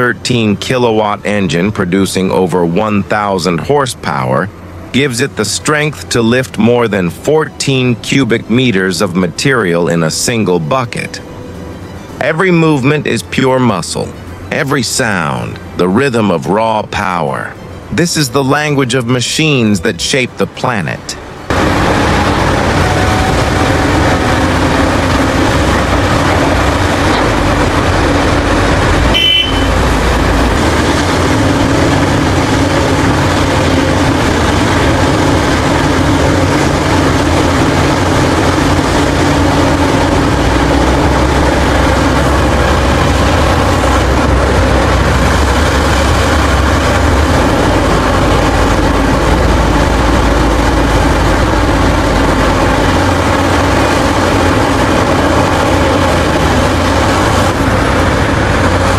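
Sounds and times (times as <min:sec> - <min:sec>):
excavator diesel engine rumble: 0:00.0 - 0:58.9.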